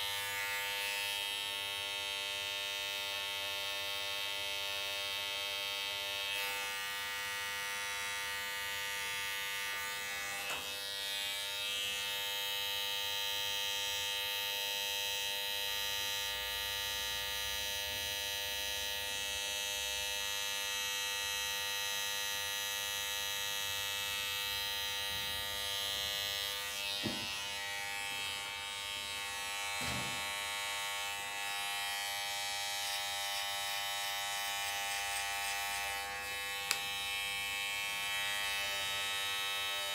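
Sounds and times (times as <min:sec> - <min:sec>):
electric hair trimmer buzzing: 0:00.0 - 0:39.9.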